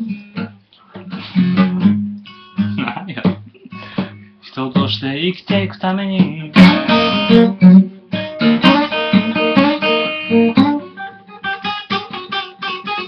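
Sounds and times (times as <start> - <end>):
acoustic guitar strummed blues: 0.0 - 13.0.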